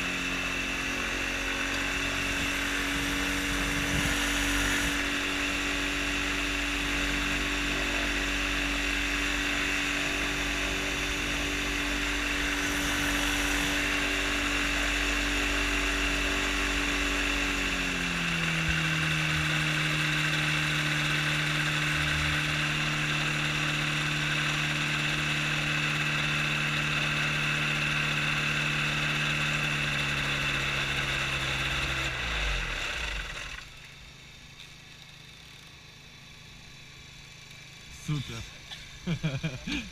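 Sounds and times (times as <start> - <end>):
propeller engine running: 0.0 - 39.9.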